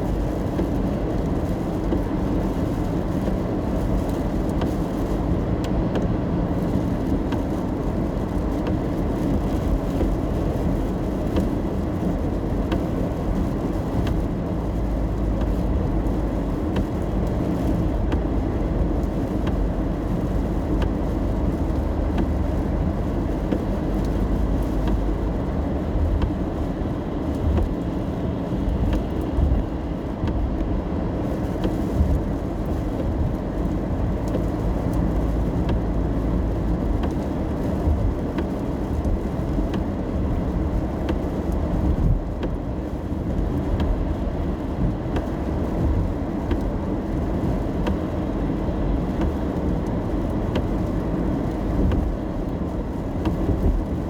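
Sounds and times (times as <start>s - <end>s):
rain ticking on car body: 0.0s - 54.0s
road and engine rumble: 0.0s - 54.0s.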